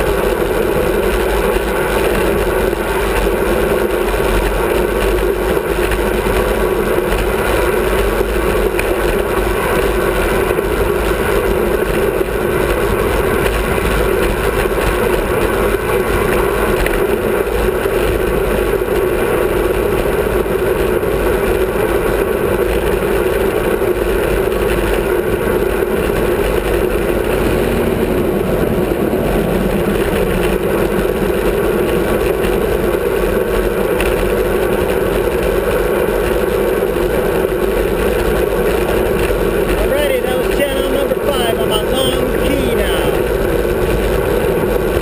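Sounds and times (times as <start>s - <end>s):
wind rushing over microphone: 0.0s - 40.4s
road noise: 0.0s - 45.0s.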